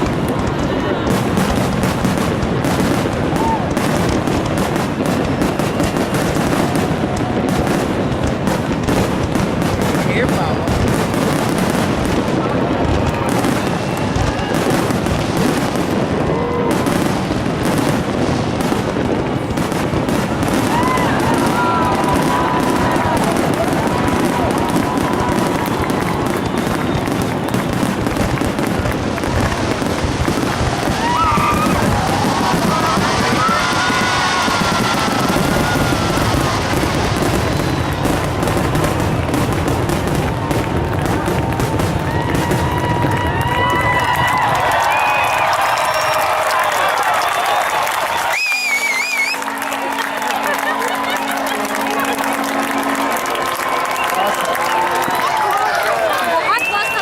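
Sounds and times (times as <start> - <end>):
fireworks booming and crackling: 0.0 - 57.0
sharp firework reports: 0.0 - 57.0.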